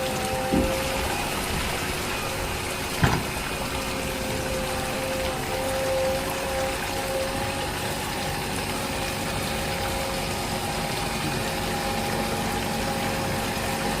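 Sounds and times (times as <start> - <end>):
electric water pump humming: 0.0 - 14.0
moving water: 0.0 - 14.0.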